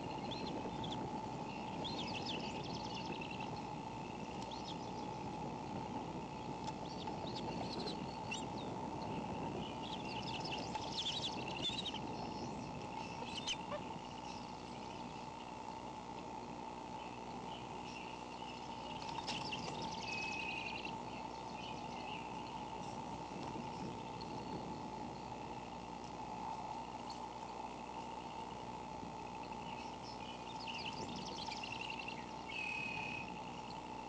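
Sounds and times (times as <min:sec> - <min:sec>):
eagle chick chirping: 0:00.0 - 0:05.8, 0:06.4 - 0:15.6, 0:17.0 - 0:25.2, 0:29.4 - 0:33.8.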